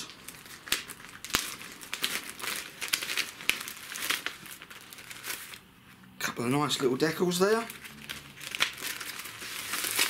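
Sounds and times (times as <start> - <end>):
plastic bag crinkling: 0.0 - 5.6, 7.2 - 10.0.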